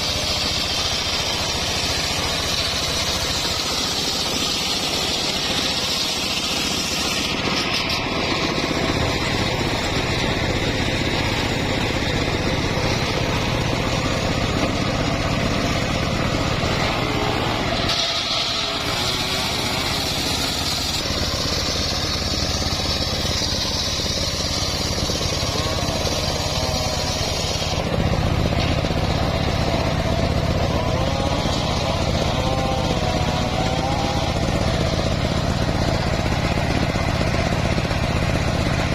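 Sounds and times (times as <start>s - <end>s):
circular saw motor drone: 0.0s - 38.9s
saw blade cutting wood: 0.0s - 38.9s.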